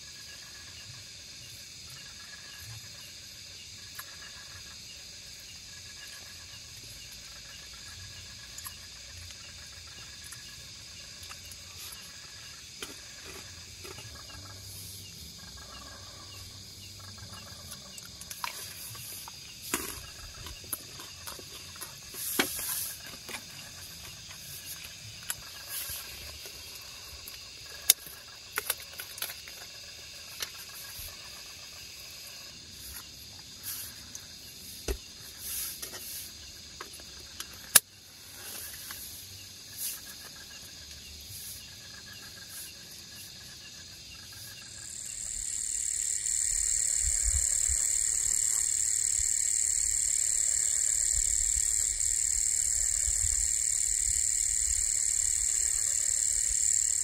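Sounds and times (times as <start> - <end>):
crickets chirping loudly: 0.0 - 57.0
insect chorus: 0.0 - 57.0.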